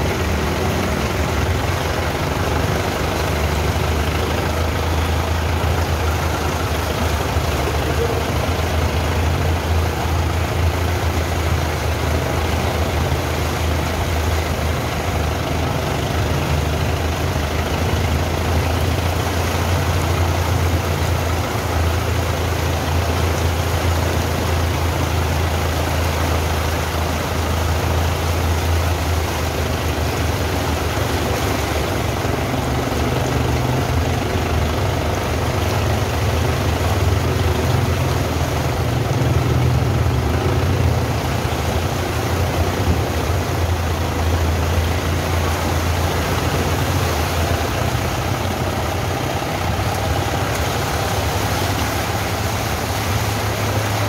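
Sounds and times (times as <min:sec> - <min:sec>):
vehicle engine low drone: 0:00.0 - 0:54.0
wheel splashing through floodwater: 0:00.0 - 0:54.0.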